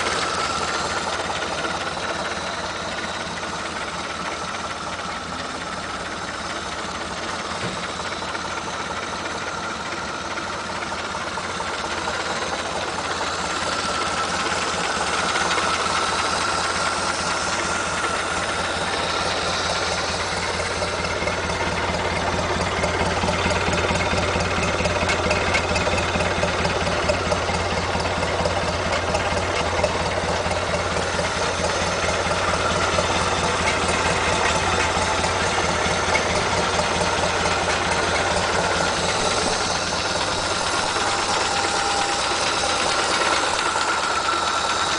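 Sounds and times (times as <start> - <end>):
old engine running through muffler: 0.0 - 44.9.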